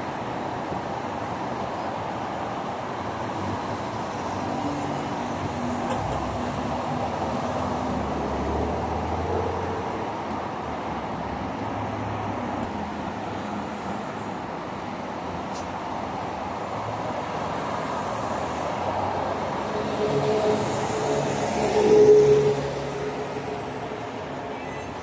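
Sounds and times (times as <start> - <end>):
car engines rumbling: 0.0 - 25.0
tyre noise of passing cars: 0.0 - 25.0.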